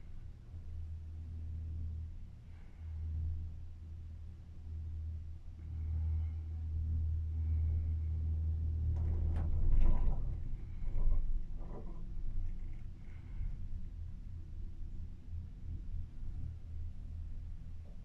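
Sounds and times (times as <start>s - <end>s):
cable car cabin humming: 0.0s - 18.0s.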